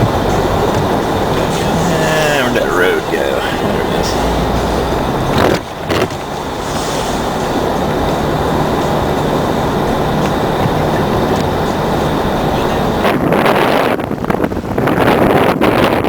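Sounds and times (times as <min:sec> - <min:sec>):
blizzard wind roaring: 0:00.0 - 0:16.0
wind buffeting microphone: 0:00.0 - 0:16.0.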